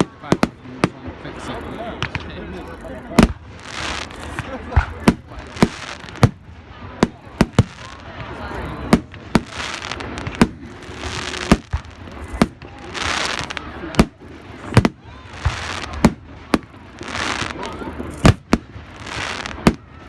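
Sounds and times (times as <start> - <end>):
fireworks bangs: 0.0 - 20.0
fireworks crackling and hissing: 0.0 - 20.0.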